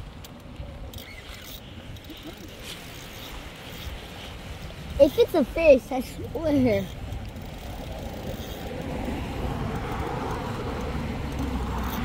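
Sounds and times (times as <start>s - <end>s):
road traffic tyre rumble: 0.0s - 12.0s.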